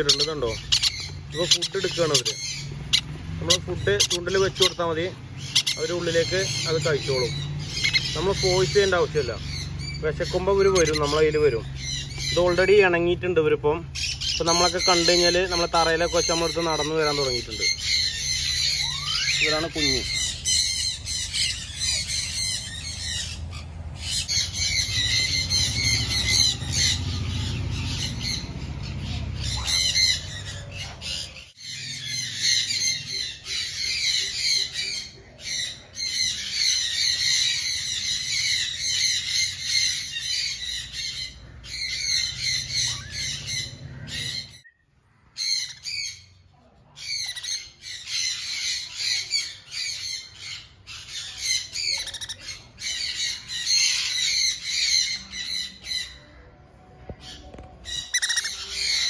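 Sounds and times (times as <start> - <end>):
parrot chicks squawking: 0.0 - 59.0.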